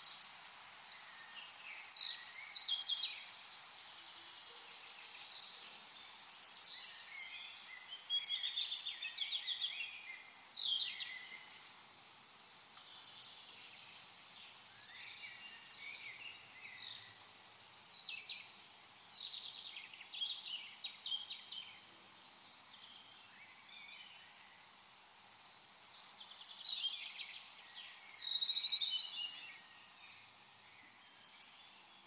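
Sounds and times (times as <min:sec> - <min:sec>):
faint steady hiss: 0:00.0 - 0:32.0
songbird chirping: 0:00.0 - 0:32.0.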